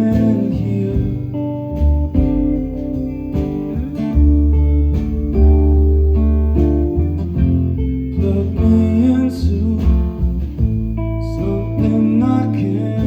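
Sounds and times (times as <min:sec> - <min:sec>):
deep sustained low notes: 0:00.0 - 0:13.0
guitar strummed and picked: 0:00.0 - 0:13.0.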